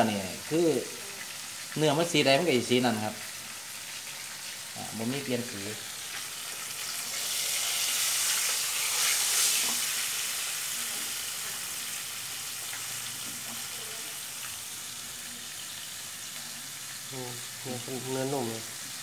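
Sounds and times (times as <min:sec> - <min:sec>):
oil sizzling: 0:00.0 - 0:19.0.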